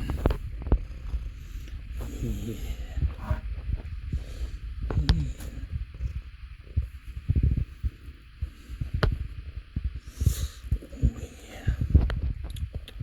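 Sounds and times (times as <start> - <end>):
microphone handling thumps and rustles: 0.0 - 13.0.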